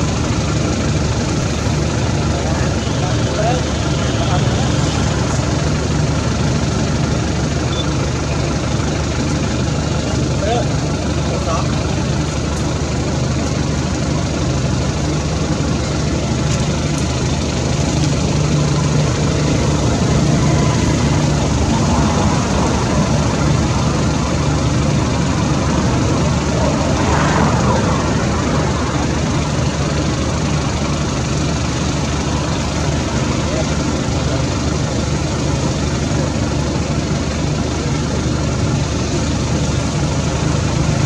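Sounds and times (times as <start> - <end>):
engine-like drone: 0.0 - 41.0.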